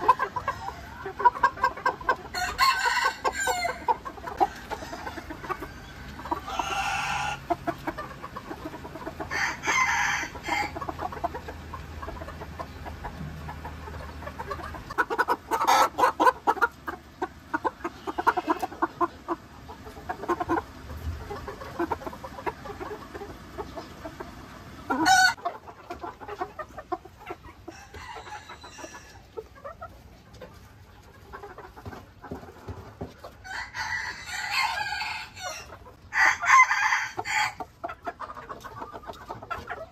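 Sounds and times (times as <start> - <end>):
chickens clucking: 0.0 - 39.9
chickens crowing: 0.0 - 39.9.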